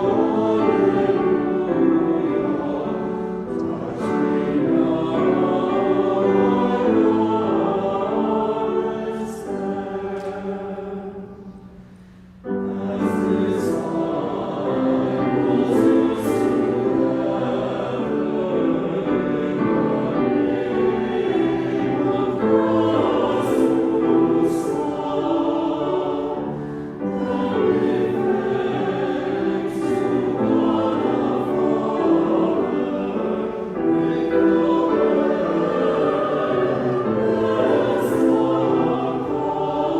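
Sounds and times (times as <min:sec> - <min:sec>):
choir singing sacred music: 0:00.0 - 0:39.9.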